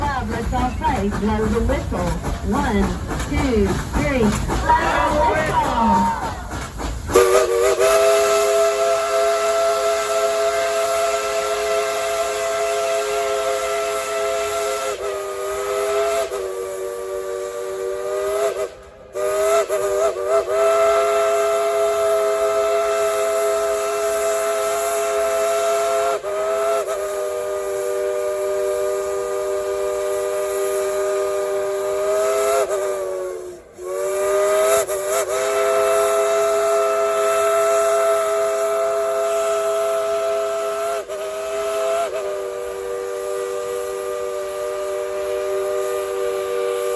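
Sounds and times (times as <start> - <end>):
steam hissing: 0.0 - 46.9
steam locomotive chime whistle: 0.0 - 46.9.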